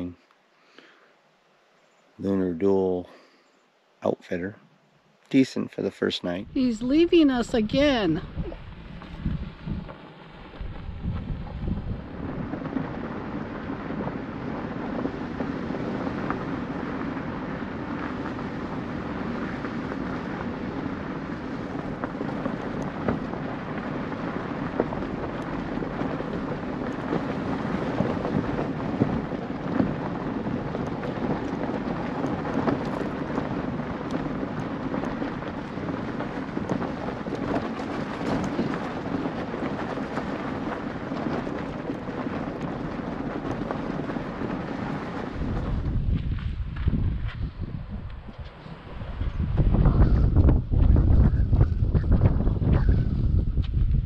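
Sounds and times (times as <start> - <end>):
vehicle rolling on gravel road: 6.2 - 54.0
stones crackling under tyres: 6.5 - 54.0.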